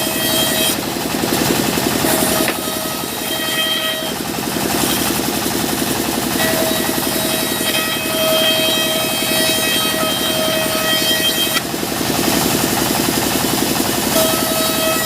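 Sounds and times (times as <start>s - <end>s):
sawmill engine throbbing: 0.0s - 15.0s.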